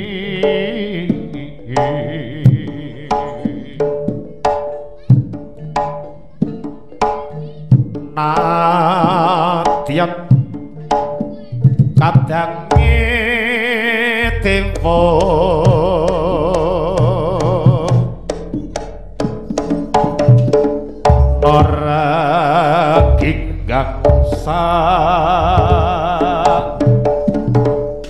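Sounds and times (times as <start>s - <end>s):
hand drum beat: 0.0s - 28.0s.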